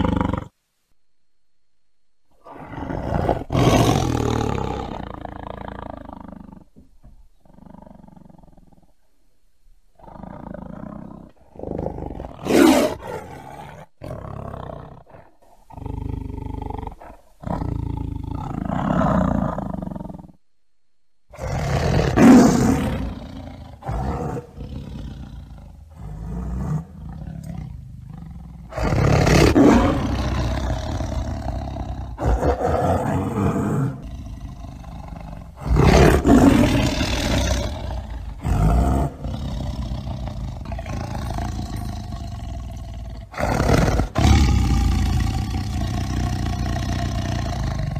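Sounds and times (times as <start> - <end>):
tiger roaring: 0.0 - 0.6, 2.4 - 9.0, 9.9 - 20.4, 21.3 - 47.9.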